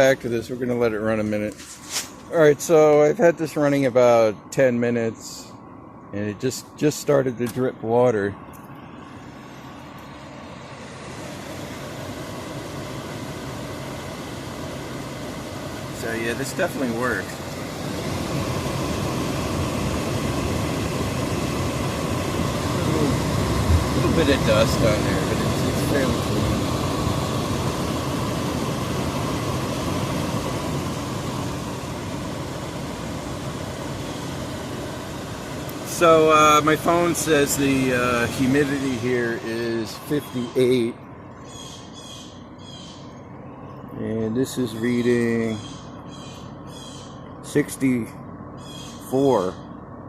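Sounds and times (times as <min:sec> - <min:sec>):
dehumidifier running: 0:00.0 - 0:50.0
low compressor hum: 0:00.0 - 0:50.0.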